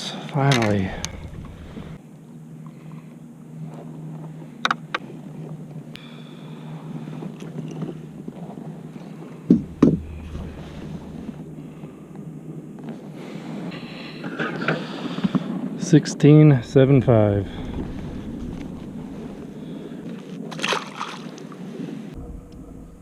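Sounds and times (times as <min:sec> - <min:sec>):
steady low hum: 0:00.0 - 0:20.5, 0:21.5 - 0:23.0.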